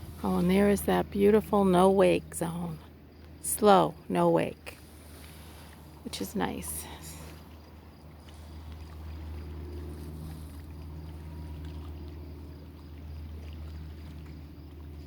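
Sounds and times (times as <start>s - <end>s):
faint water sounds: 0.0s - 15.0s
steady low hum: 0.0s - 15.0s.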